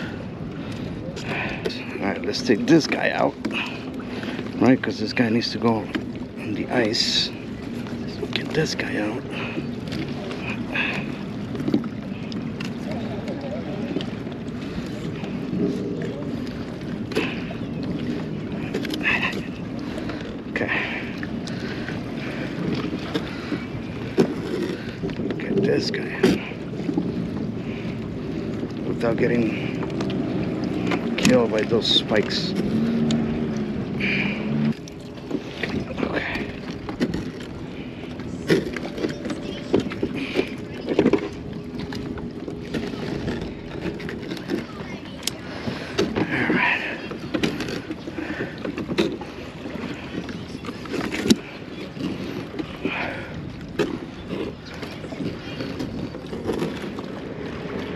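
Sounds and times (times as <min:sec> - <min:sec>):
water lapping against plastic hull: 0:00.0 - 0:57.9.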